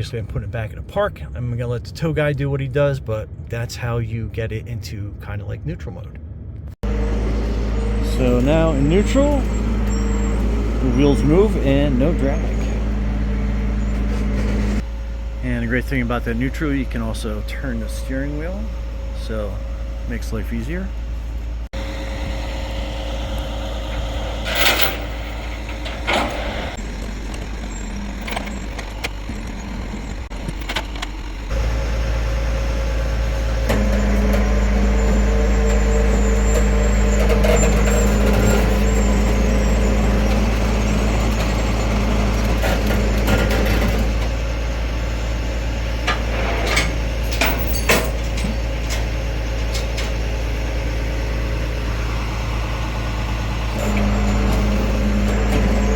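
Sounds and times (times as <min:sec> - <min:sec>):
truck engine rumbling: 0:00.0 - 0:55.9.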